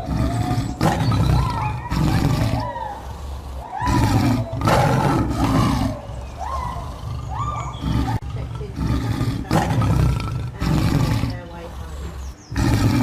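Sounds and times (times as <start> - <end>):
bears roaring: 0.0 - 13.0.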